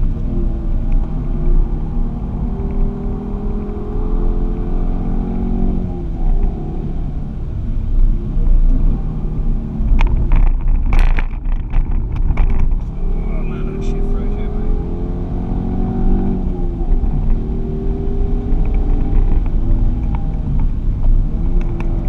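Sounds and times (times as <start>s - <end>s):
car engine running: 0.0s - 22.0s
road and wind rumble: 0.0s - 22.0s.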